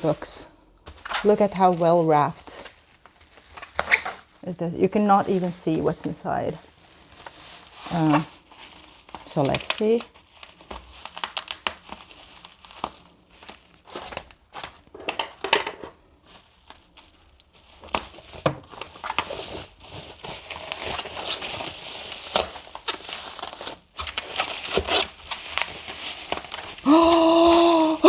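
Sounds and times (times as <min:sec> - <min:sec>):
wrapping crinkling and tearing: 0:00.0 - 0:28.0.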